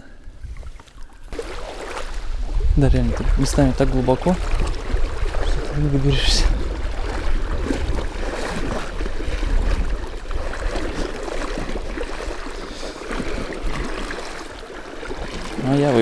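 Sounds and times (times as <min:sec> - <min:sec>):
wading through water splashing: 0:00.3 - 0:16.0.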